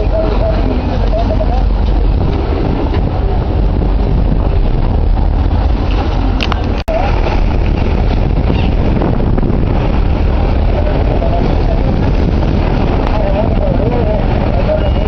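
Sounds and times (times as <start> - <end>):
boat engines rumbling: 0.0 - 15.0
rushing wind: 0.0 - 15.0
water noise: 0.0 - 15.0.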